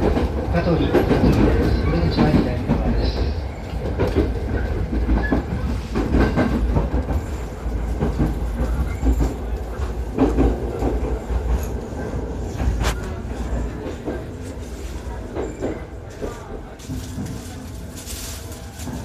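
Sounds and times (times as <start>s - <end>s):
low rumble of train wheels: 0.0s - 19.0s.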